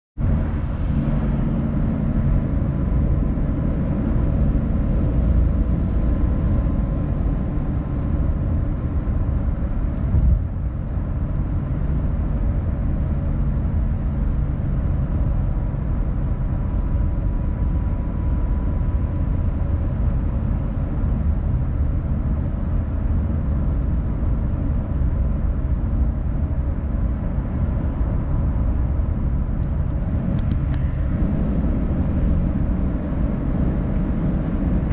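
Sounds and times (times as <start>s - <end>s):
car road and tyre rumble: 0.2s - 34.9s.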